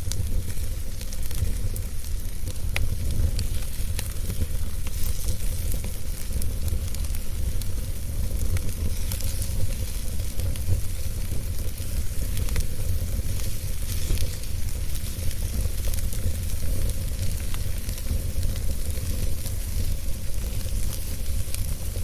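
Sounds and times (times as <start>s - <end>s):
wood fire crackling and hissing: 0.0s - 22.0s.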